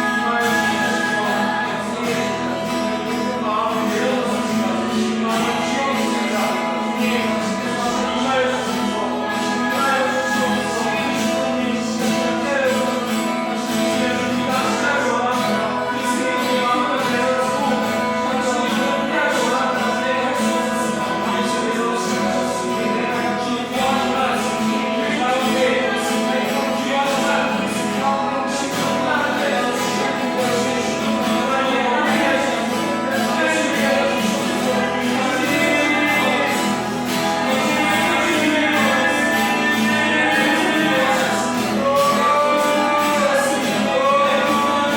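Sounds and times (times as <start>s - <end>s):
guitar accompaniment: 0.0s - 44.9s
worship song singing: 0.0s - 44.9s.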